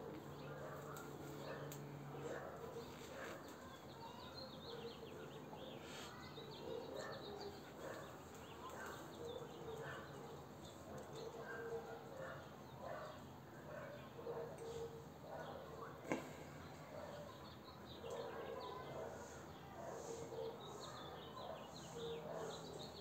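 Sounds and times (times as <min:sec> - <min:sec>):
faint background noise: 0:00.0 - 0:23.0
small birds chirping: 0:00.0 - 0:23.0.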